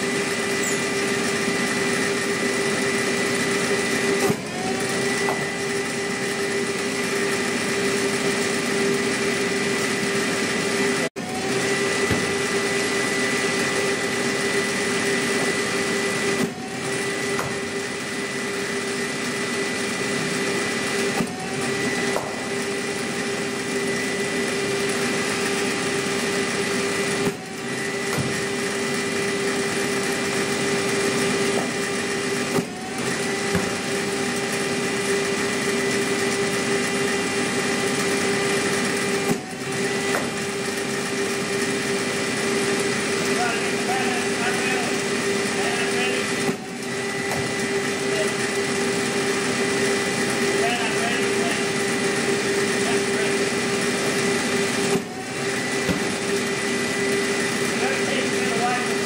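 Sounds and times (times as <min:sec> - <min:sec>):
bowling machine motor whine: 0:00.0 - 0:59.0.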